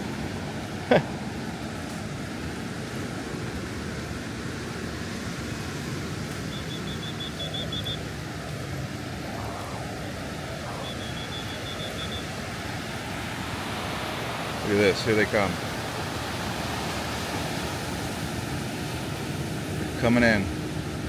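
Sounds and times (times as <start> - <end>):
surf: 0.0 - 21.0
wind: 0.0 - 21.0.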